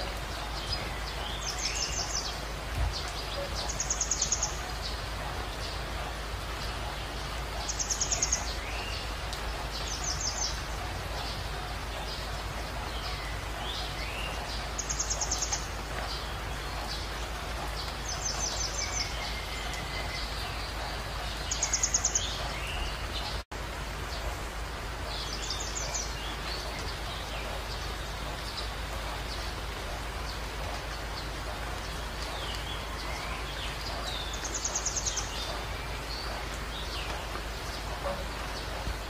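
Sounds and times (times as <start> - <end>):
birds chirping and trilling: 0.0 - 39.0.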